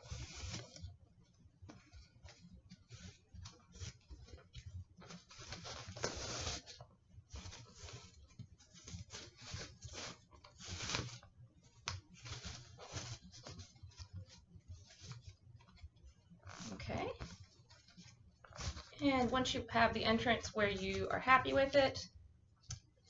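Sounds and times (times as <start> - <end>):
t-shirt rustling and rubbing: 0.0 - 21.6.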